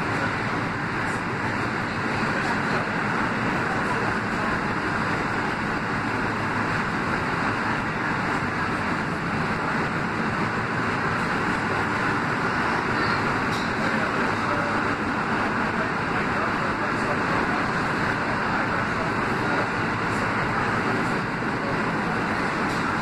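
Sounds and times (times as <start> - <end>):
subway wheels rumbling on rails: 0.0 - 23.0.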